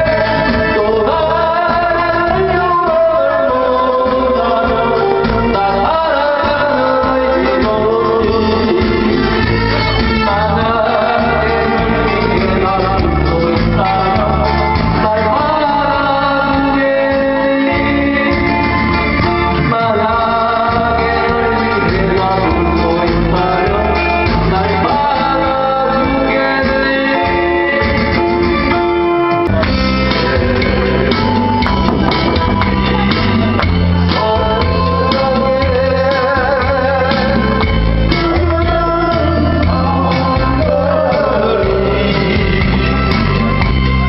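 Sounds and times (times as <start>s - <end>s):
man singing into a microphone: 0.0s - 43.9s
loud amplified backing music: 0.0s - 44.0s.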